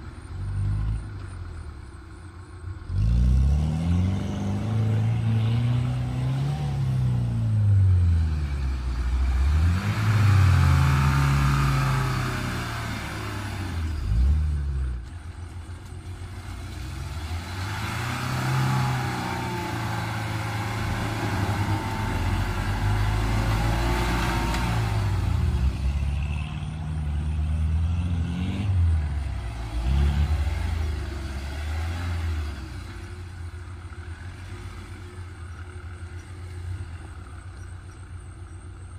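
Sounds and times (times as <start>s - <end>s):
jeep engine revving: 2.8s - 38.9s.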